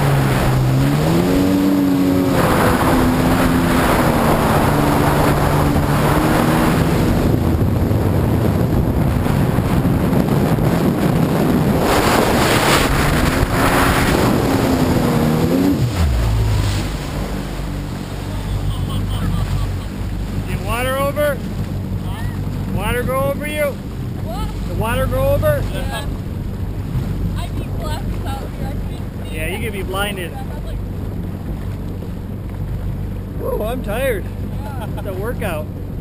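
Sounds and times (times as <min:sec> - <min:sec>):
watercraft engine running: 0:00.0 - 0:36.0
wind on microphone: 0:00.0 - 0:36.0.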